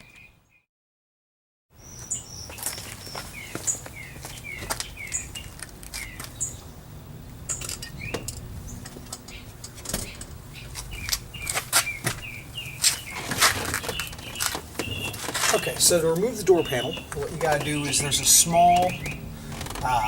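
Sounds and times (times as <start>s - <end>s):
small birds chirping: 1.8s - 20.0s.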